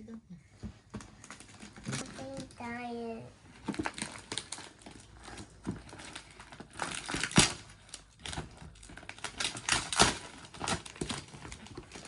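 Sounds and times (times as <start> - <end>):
packaging crinkling and tearing: 1.2 - 12.0.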